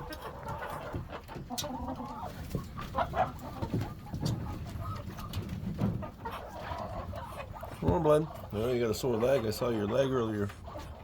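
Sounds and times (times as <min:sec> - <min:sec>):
poultry clucking: 0:00.0 - 0:11.0.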